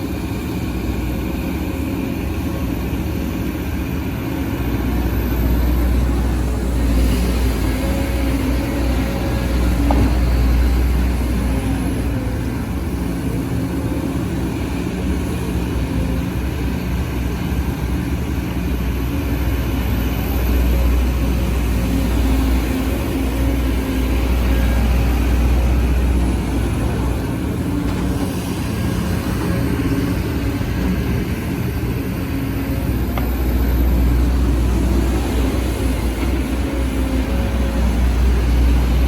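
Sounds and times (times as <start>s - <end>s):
excavator diesel engine drone: 0.0s - 39.0s.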